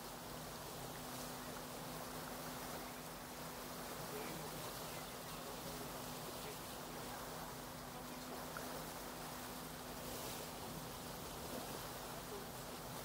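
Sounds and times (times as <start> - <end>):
rushing water: 0.0 - 13.0
wind: 0.0 - 13.0.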